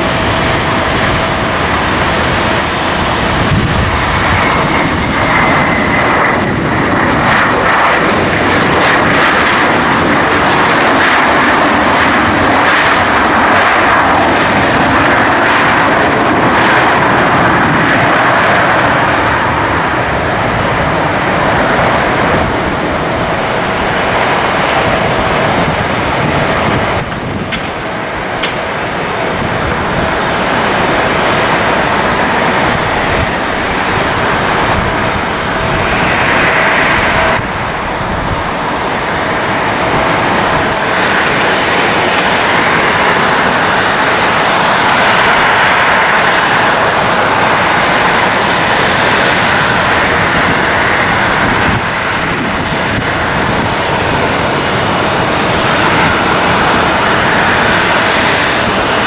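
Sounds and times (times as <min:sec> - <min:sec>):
airliner engines: 0:00.0 - 0:59.0.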